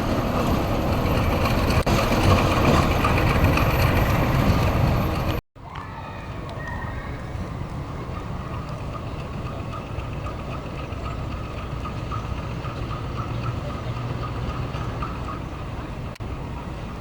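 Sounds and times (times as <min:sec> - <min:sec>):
diesel train engine rumble: 0:00.0 - 0:17.0
train whine: 0:00.0 - 0:17.0.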